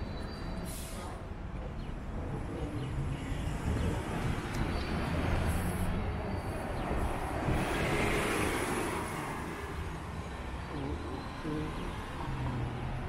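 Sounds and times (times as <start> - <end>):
bus driving past: 0.0 - 13.0
street traffic: 0.0 - 13.0.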